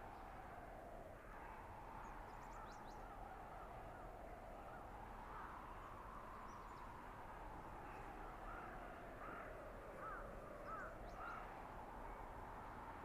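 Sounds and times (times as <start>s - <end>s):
blizzard wind: 0.0s - 13.0s.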